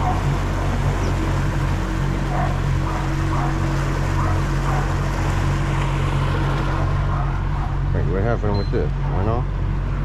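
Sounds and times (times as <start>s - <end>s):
outboard motor drone: 0.0s - 10.0s
wind and water rushing: 0.0s - 10.0s.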